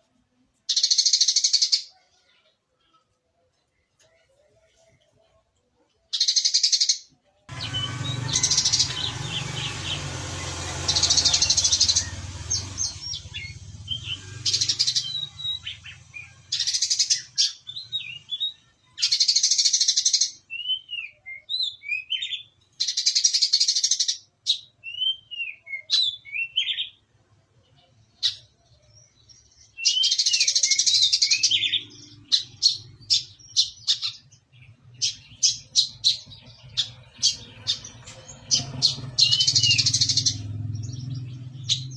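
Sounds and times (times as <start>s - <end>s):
sunbird singing: 6.1s - 41.9s.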